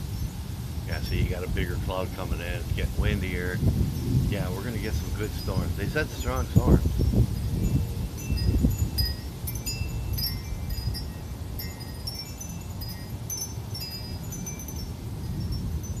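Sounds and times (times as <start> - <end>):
wind rumble on microphone: 0.0 - 16.0
wind chimes tinkling: 0.1 - 2.6, 3.2 - 16.0.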